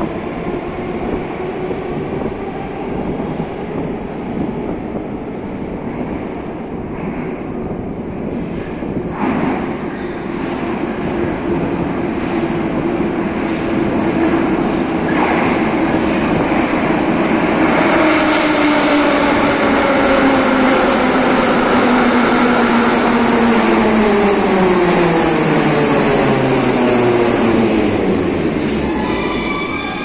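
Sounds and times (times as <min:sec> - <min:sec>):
wheel and rail rumble: 0:00.0 - 0:30.0.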